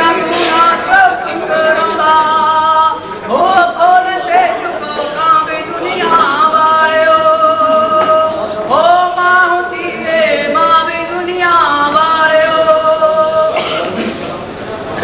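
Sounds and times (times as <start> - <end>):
person singing long notes: 0.0 - 13.6.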